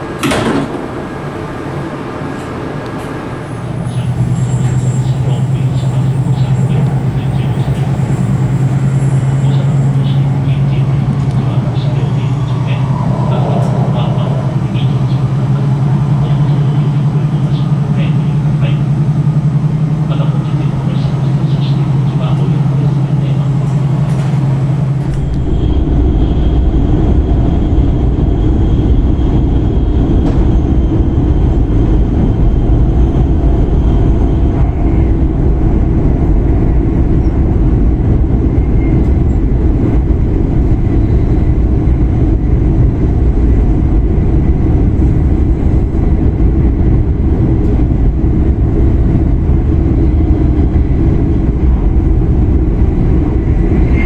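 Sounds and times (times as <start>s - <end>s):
train cabin low rumble: 0.0s - 54.0s.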